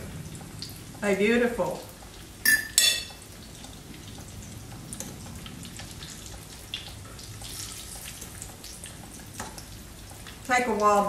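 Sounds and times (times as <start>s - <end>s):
frying sizzle with crackles: 0.0s - 11.0s.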